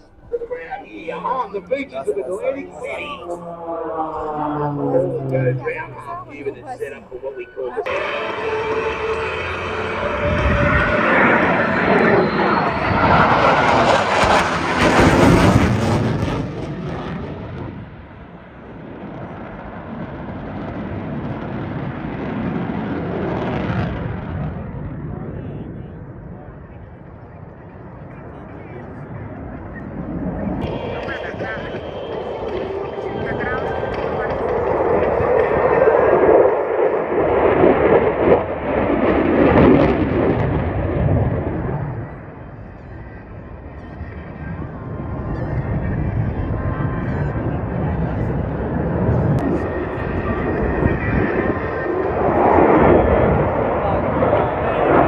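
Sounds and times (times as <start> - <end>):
airplane engine drone: 0.0 - 55.0.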